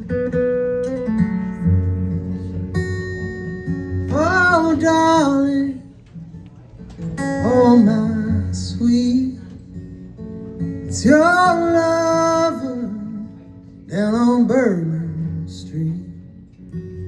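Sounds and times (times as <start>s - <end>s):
country guitar: 0.0s - 17.0s.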